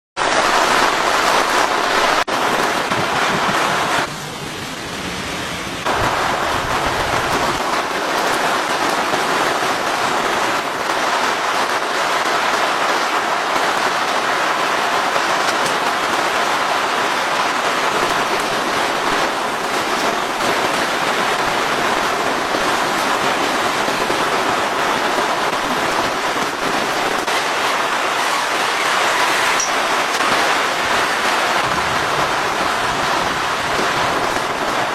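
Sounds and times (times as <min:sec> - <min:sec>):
loud rain falling: 0:00.2 - 0:34.9.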